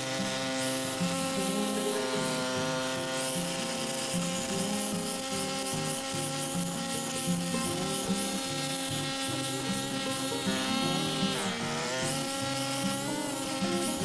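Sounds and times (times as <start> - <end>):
background music with sustained tones: 0.0 - 14.0.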